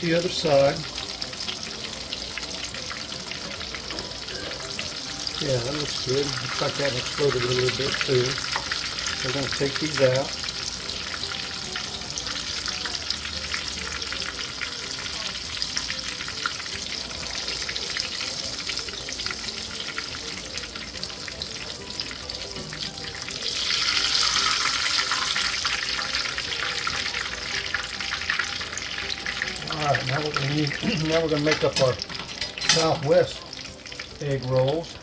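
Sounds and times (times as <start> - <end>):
food deep-frying in hot oil: 0.0 - 35.0.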